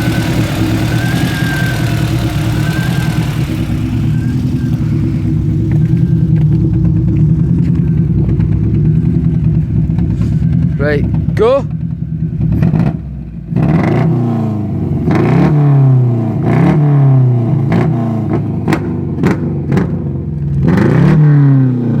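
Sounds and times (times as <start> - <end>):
engine revving in short blips: 0.0 - 20.0.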